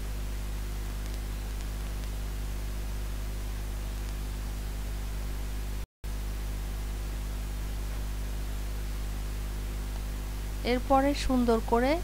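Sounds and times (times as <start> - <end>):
low electrical hum with hiss: 0.0 - 12.0.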